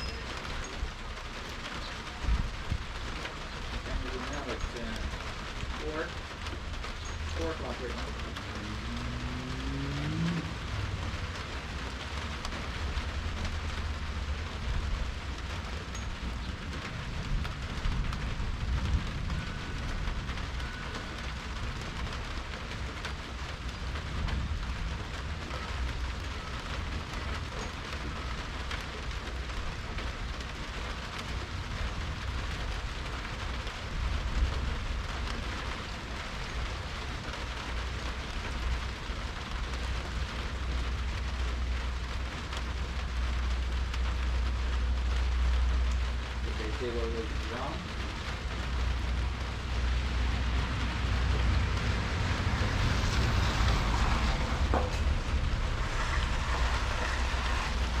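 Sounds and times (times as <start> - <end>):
rain on hard surfaces: 0.0 - 58.0
low rumble: 2.1 - 30.5, 31.3 - 58.0.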